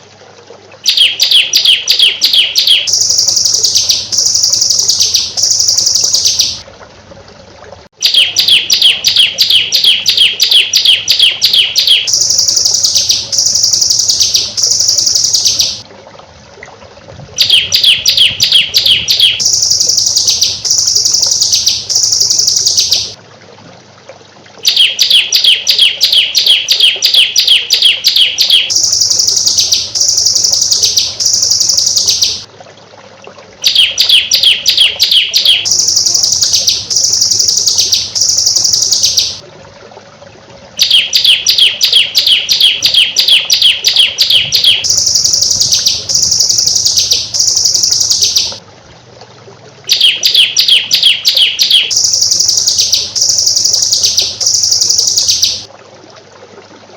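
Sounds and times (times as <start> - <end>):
songbird singing: 0.8 - 6.6, 8.0 - 15.8, 17.4 - 23.2, 24.6 - 32.5, 33.6 - 39.4, 40.8 - 48.6, 49.9 - 55.7.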